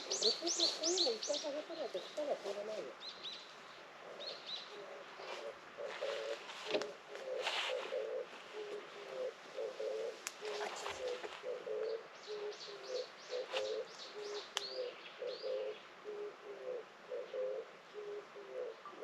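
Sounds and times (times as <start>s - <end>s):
dove cooing: 0.0s - 3.1s, 3.9s - 19.0s.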